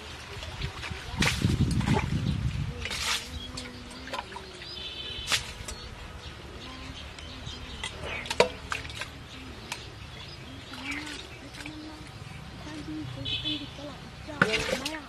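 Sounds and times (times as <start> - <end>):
bowls sloshing muddy water: 0.0 - 15.0.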